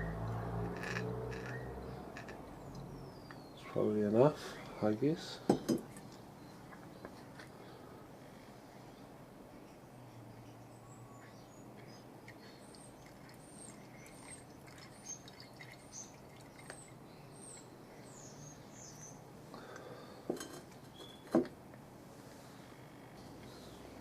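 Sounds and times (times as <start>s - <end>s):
faint birds chirping: 1.4s - 21.4s, 22.3s - 24.0s.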